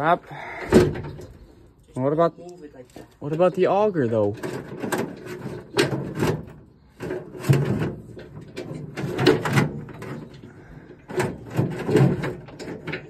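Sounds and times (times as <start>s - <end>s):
chain clanking and rattling: 0.7s - 13.0s.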